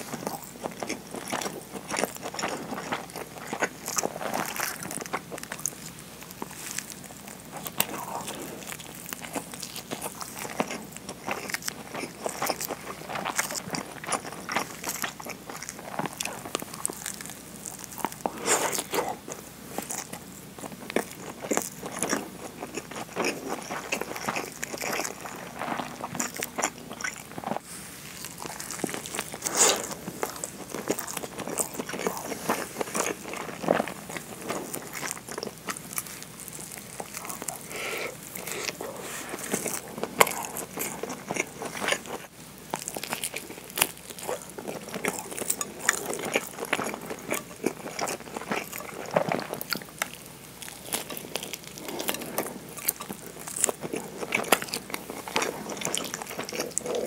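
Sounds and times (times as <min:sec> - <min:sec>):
chewing rice ball: 0:00.0 - 0:57.0.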